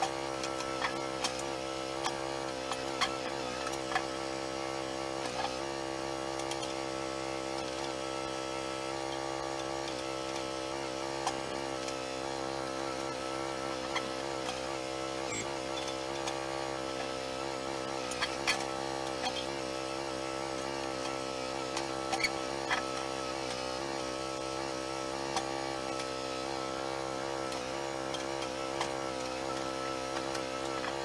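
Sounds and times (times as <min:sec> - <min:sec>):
motor running steadily: 0:00.0 - 0:31.0.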